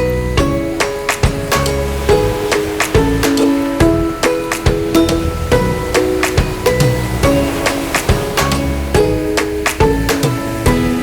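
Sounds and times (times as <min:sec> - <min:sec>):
plucked guitar tune over beat: 0:00.0 - 0:11.0
percussive hits: 0:00.4 - 0:10.5.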